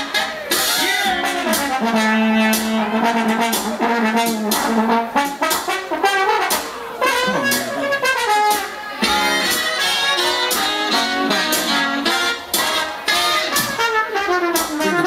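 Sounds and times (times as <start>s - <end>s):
funk horn section: 0.0s - 15.0s
drum beat: 0.5s - 15.0s.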